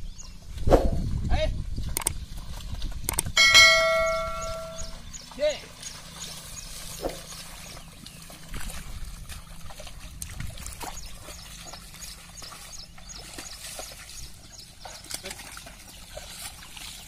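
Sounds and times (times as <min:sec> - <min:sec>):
hooves splashing through mud: 0:00.0 - 0:17.0.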